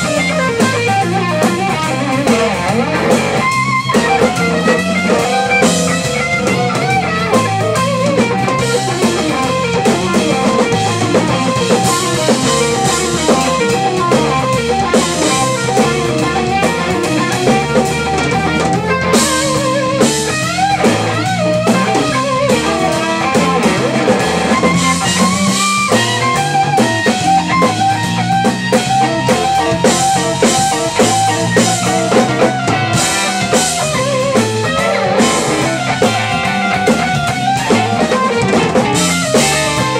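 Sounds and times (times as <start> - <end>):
drum kit: 0.0 - 39.9
electric guitar lead with bends: 0.0 - 39.9
low bass notes: 0.0 - 39.9.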